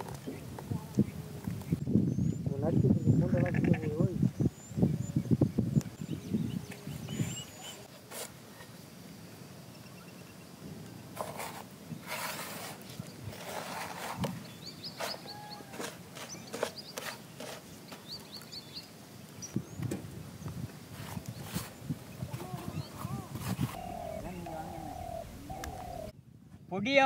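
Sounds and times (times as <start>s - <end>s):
small birds chirping: 0.0s - 11.1s, 11.9s - 26.2s.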